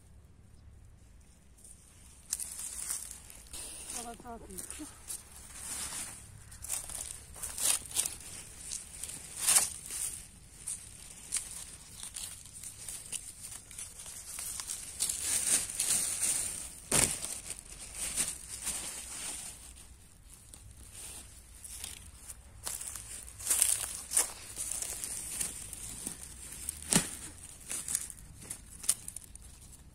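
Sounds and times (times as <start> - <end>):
leaves and stems rustling: 1.0 - 29.9.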